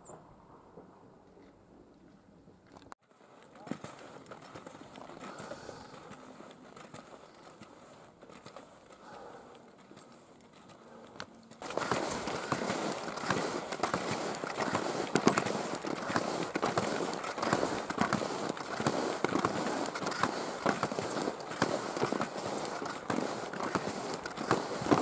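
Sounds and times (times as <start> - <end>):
ski poles planting: 2.7 - 25.0
skis crunching on snow: 3.1 - 25.0.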